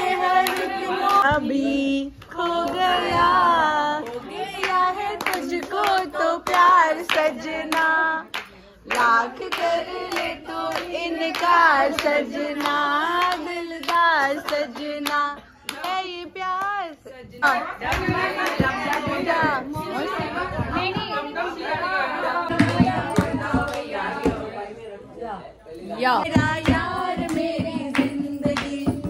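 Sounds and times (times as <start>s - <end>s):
rhythmic hand clapping: 0.0s - 24.6s, 26.2s - 29.0s.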